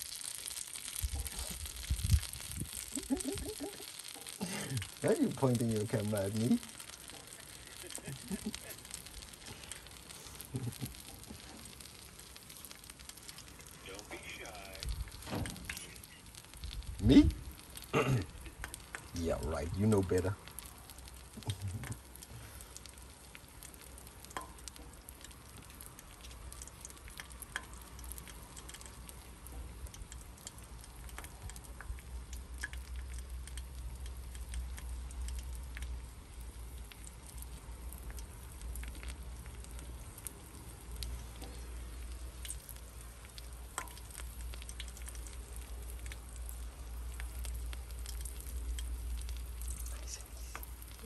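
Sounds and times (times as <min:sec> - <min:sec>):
food sizzling on a griddle: 0:00.0 - 0:51.0.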